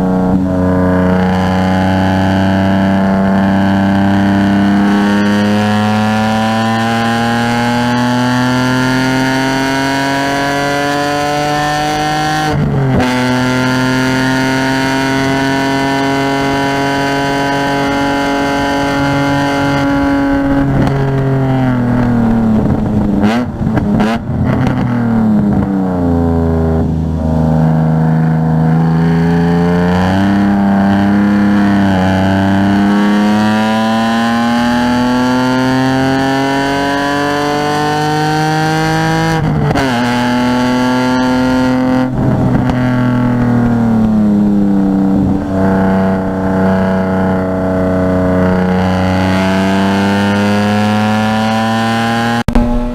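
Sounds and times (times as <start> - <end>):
gear changes and downshifts: 0.0 - 52.9
race car engine revving: 0.0 - 52.9.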